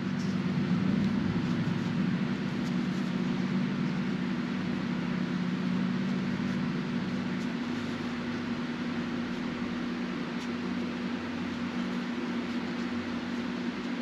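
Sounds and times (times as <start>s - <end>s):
fan humming and hissing: 0.0s - 14.0s.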